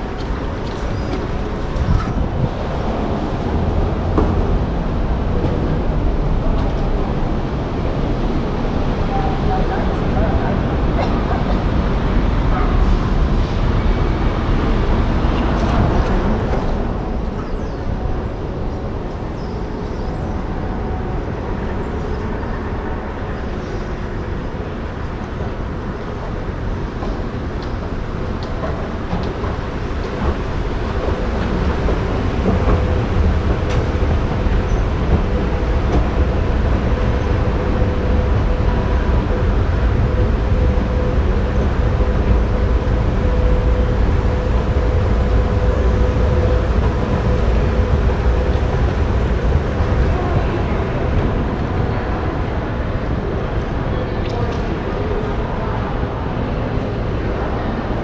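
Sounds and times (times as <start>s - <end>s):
escalator mechanical hum: 0.0s - 58.0s
indoor hall ambience: 0.0s - 58.0s
traffic rumble: 0.0s - 58.0s.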